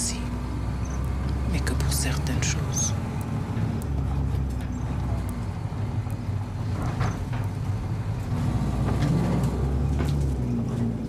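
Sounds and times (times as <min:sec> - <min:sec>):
coach engine running: 0:00.0 - 0:11.0
road rumble: 0:00.0 - 0:11.0.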